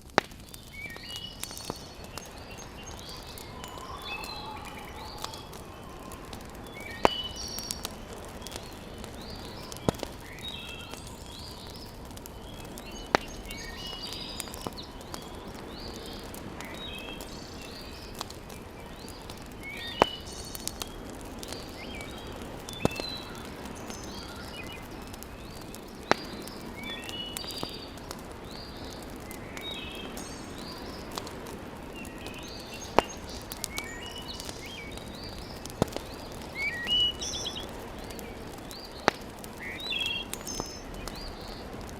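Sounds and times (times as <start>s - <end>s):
wood fire crackling: 0.0s - 41.9s
birds chirping: 0.4s - 41.9s.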